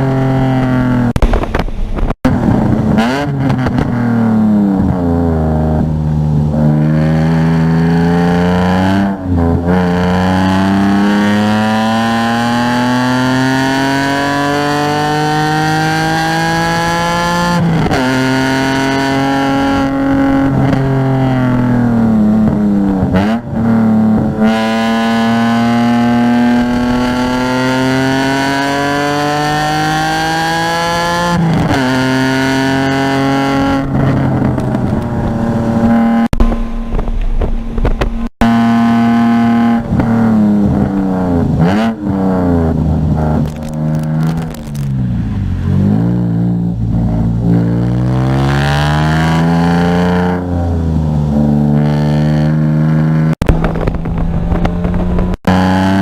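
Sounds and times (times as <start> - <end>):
car engine revving and shifting: 2.3 - 56.0.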